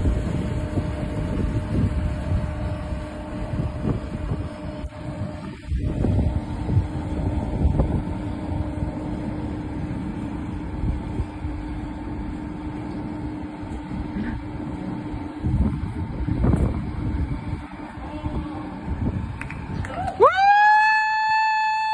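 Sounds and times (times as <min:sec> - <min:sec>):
heavy engine humming: 0:00.0 - 0:21.9
wind rumble on microphone: 0:00.0 - 0:21.9.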